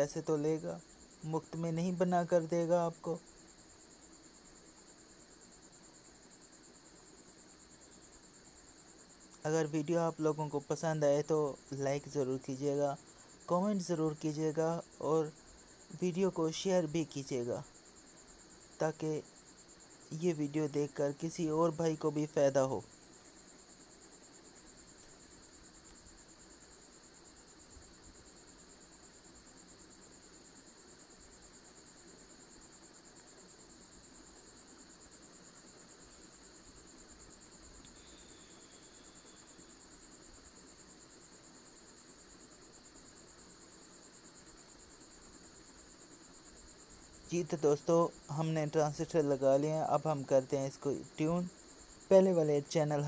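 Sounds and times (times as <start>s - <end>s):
faint high-pitched whine: 0.0s - 53.0s.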